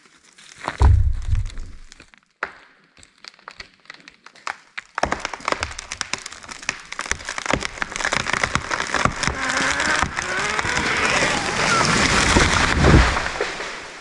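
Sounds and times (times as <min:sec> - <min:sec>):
tree falling with cracking limbs: 0:00.1 - 0:02.1, 0:03.3 - 0:14.0.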